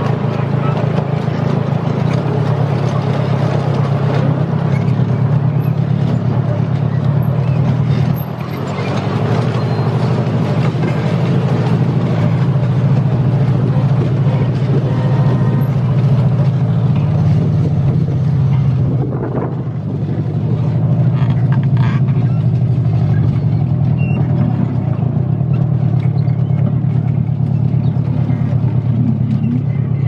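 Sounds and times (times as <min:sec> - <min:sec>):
engine drone: 0:00.0 - 0:30.0.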